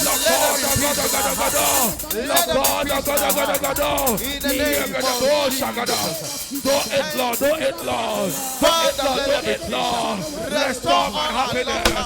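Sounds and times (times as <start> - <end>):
many voices praying aloud: 0.0 - 12.0.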